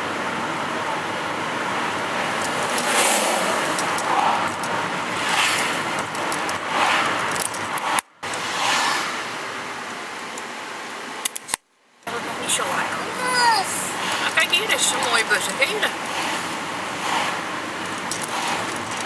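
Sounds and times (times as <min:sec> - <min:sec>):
road noise inside moving car: 0:00.0 - 0:19.0
vehicles passing: 0:00.0 - 0:19.0.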